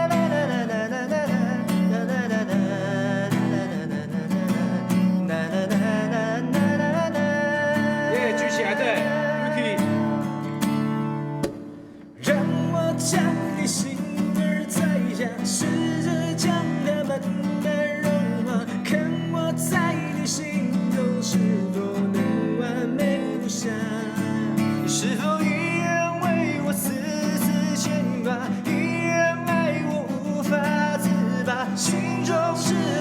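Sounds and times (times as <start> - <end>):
person singing: 0.0 - 10.5, 12.2 - 33.0
acoustic guitar strumming: 0.0 - 33.0.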